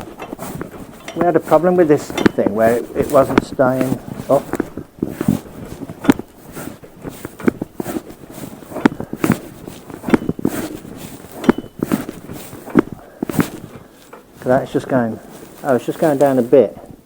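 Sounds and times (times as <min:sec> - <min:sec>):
sharp irregular knocks and clicks: 0:00.0 - 0:15.6.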